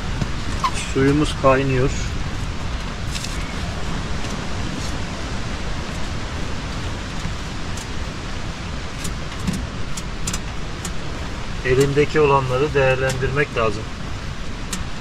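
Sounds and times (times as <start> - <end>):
low rumble: 0.0 - 15.0
wind blowing against tent: 0.0 - 15.0.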